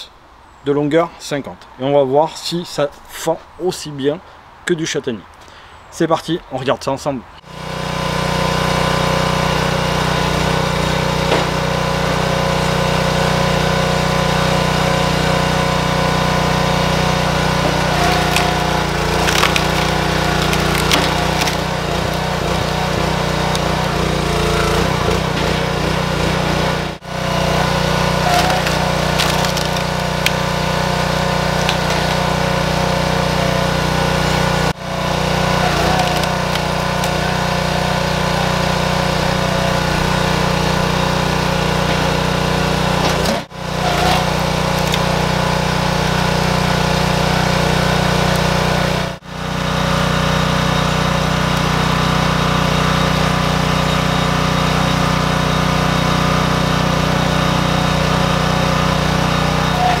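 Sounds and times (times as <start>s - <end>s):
log splitter engine running: 7.4s - 60.0s.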